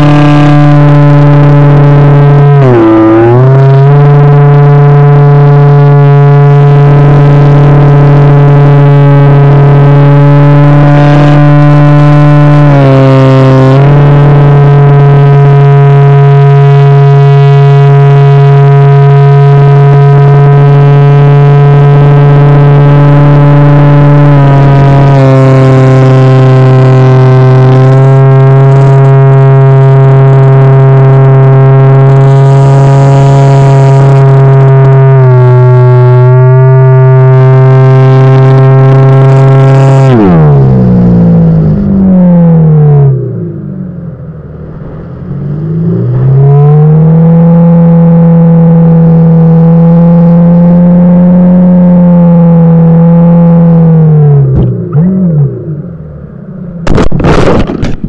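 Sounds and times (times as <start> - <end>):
model airplane motor humming: 0.0 - 43.3, 44.6 - 55.7.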